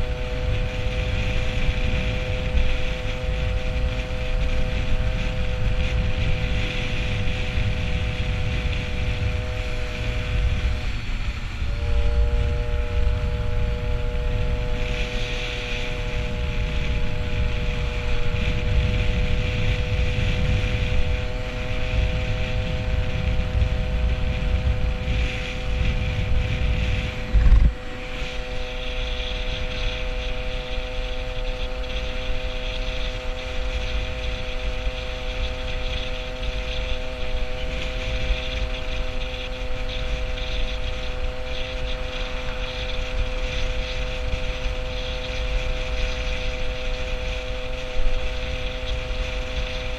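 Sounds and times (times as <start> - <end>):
moped engine running: 0.0 - 49.9
wind buffeting microphone: 0.0 - 49.9.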